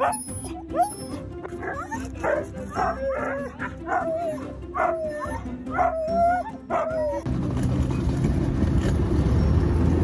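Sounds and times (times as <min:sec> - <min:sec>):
sled dogs barking and yelping: 0:00.0 - 0:08.3.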